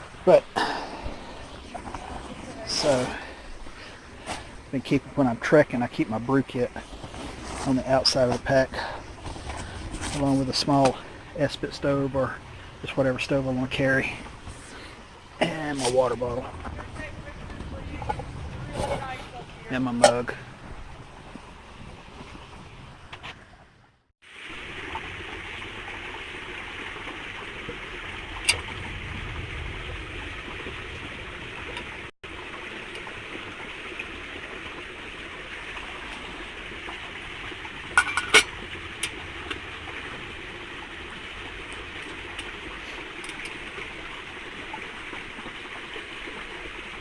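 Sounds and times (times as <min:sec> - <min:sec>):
creek water running: 0:00.0 - 0:47.0.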